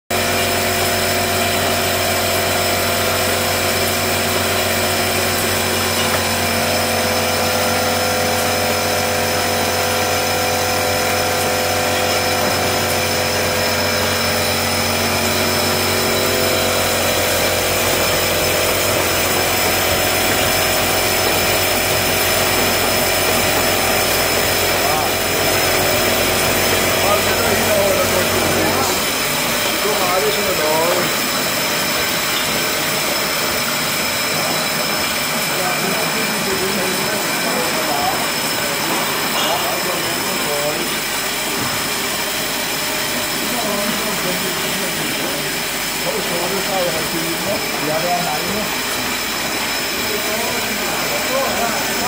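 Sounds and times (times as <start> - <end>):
bottling machine drone: 0.1 - 52.0.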